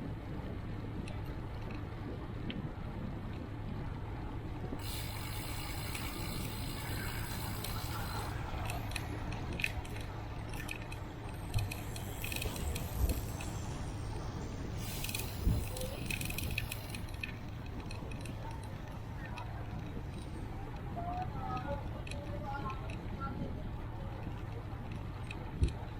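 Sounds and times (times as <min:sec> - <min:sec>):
wind and road noise: 0:00.0 - 0:25.9
bicycle drivetrain rattling: 0:04.8 - 0:25.9.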